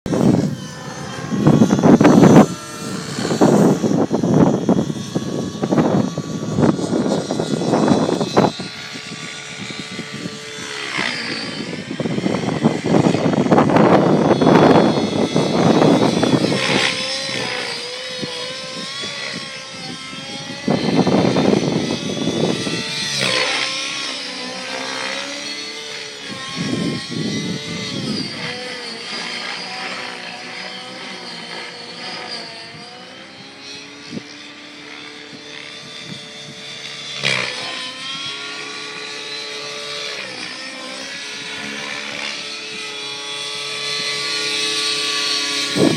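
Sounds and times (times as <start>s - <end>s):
wind buffeting microphone: 0.1s - 40.4s, 41.0s - 45.9s
model helicopter whining rotor: 0.1s - 45.9s.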